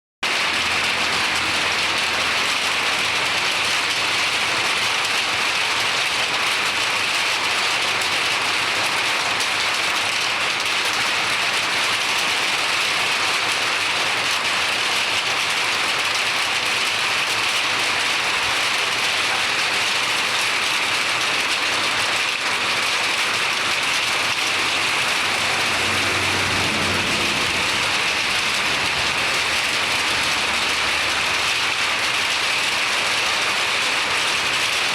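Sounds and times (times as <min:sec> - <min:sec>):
rain falling steadily: 0:00.2 - 0:34.9.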